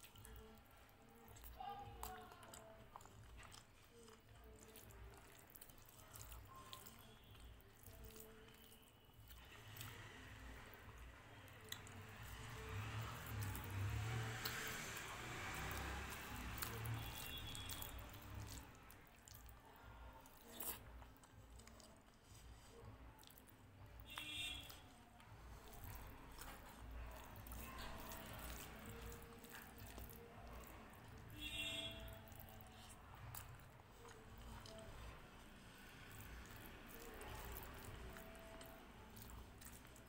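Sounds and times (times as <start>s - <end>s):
chewing and wet mouth clicks: 0.0s - 40.0s
fingers squishing soft food: 0.0s - 40.0s.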